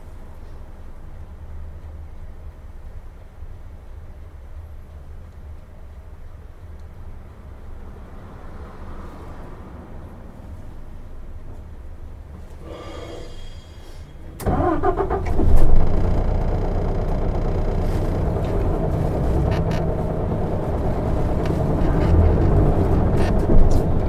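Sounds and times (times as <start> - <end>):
bus engine rumbling: 3.6 - 24.0.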